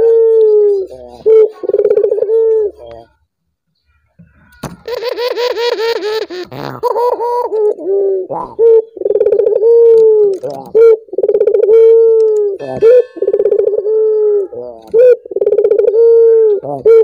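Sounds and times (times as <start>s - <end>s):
dove cooing: 0.0s - 3.1s, 4.9s - 17.0s.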